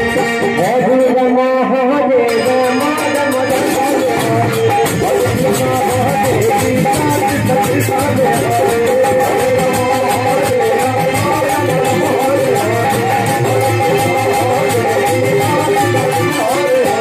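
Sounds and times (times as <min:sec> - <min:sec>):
hand percussion: 0:00.0 - 0:17.0.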